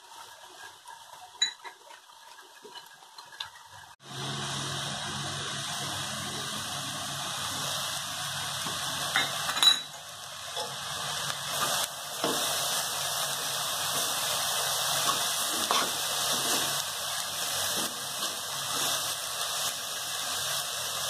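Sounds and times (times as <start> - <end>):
greens sizzling in a pan: 0.0 - 21.0.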